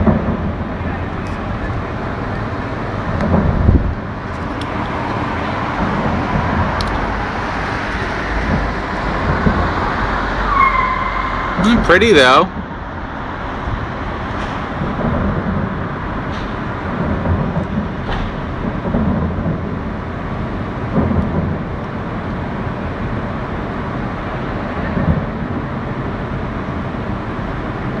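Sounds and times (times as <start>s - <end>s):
distant fireworks booming: 0.0s - 10.5s, 11.5s - 27.0s
city traffic hum: 0.0s - 28.0s.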